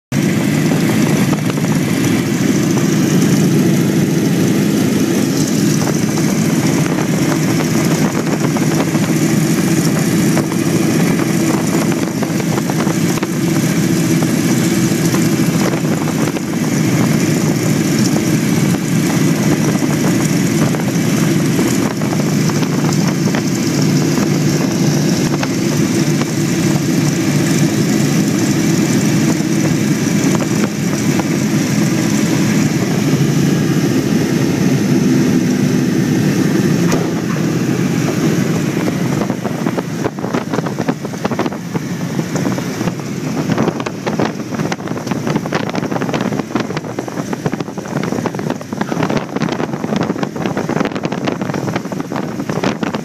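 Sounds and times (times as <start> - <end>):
propeller engines droning: 0.1 - 53.0.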